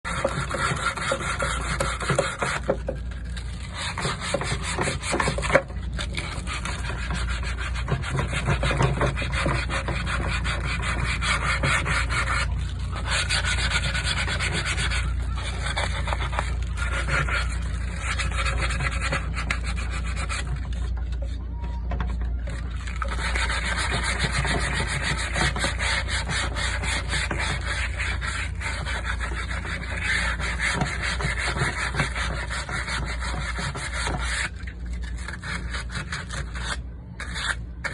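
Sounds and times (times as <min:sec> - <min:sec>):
sanding wood: 0:00.1 - 0:21.3, 0:22.5 - 0:37.9.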